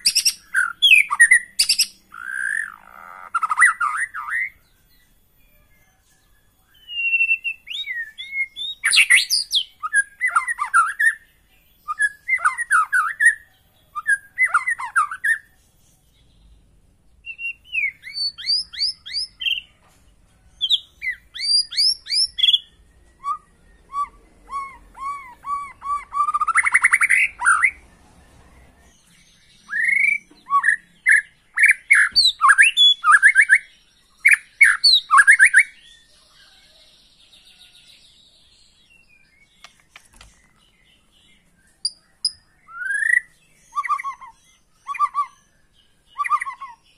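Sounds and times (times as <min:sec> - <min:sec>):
songbird singing whistles and chatter: 0:00.0 - 0:19.8, 0:20.5 - 0:46.9.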